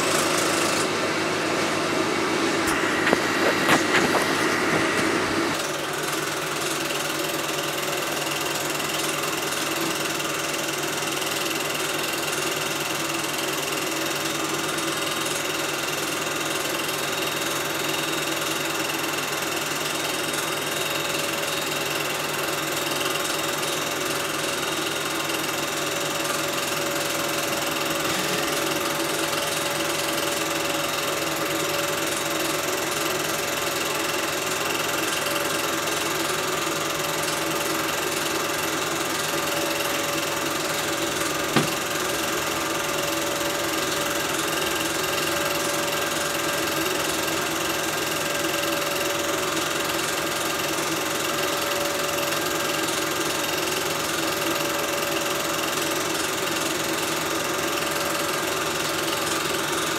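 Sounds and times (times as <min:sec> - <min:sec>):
film projector whirring and rattling: 0:00.0 - 0:59.9.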